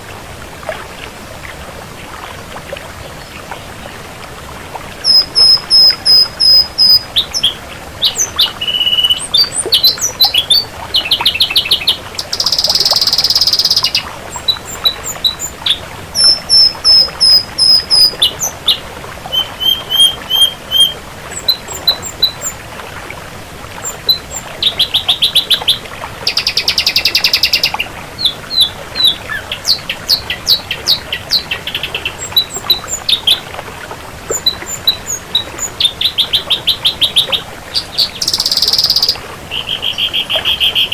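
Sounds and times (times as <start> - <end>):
bird singing varied song: 5.0 - 22.6, 23.8 - 33.4, 34.3 - 40.9.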